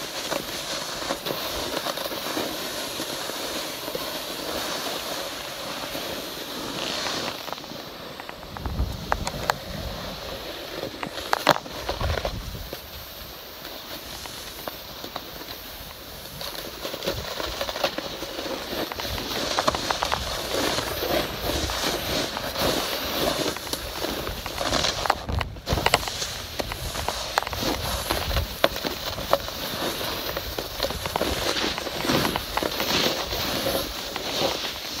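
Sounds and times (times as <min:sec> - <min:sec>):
snowboard scraping over snow: 0:00.0 - 0:35.0.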